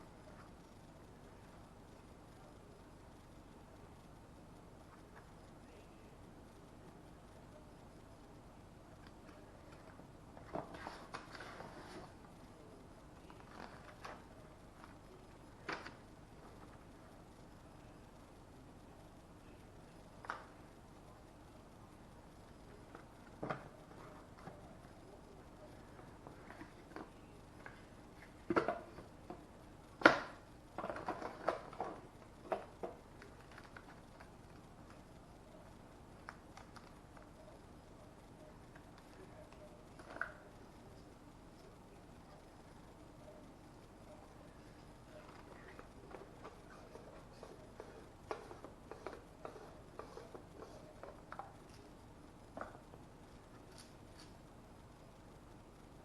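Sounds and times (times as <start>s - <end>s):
faint hiss: 0.0s - 56.0s.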